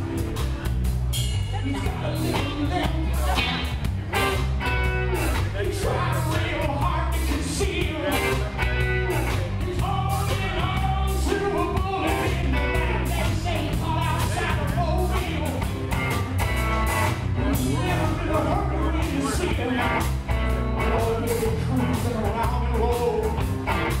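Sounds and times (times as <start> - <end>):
live rock band playing: 0.0 - 24.0
person singing: 1.6 - 20.2, 20.8 - 23.5.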